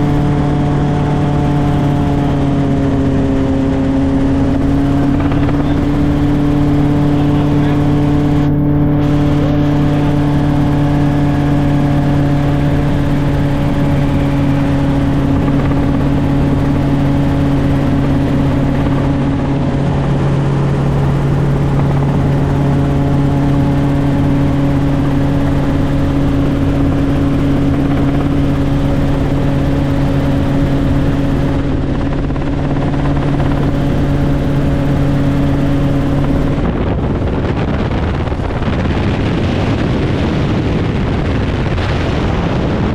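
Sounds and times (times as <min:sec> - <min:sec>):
helicopter drone: 0:00.0 - 0:42.9.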